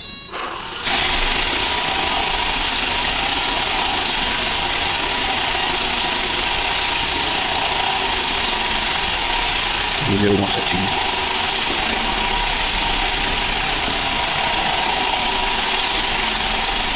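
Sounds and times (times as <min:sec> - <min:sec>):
robot vacuum whirring: 0:00.4 - 0:16.9.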